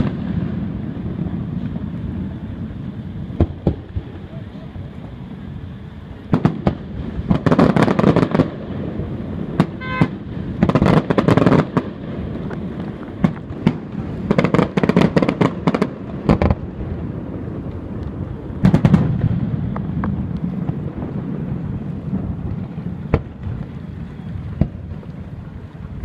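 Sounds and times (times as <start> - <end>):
firework bangs and crackling: 0.0 - 26.0.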